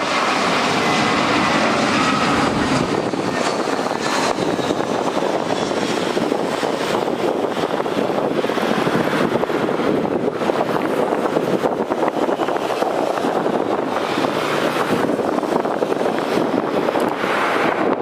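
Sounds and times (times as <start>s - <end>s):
jet engine rushing: 0.0s - 18.0s
wind on microphone: 0.0s - 18.0s.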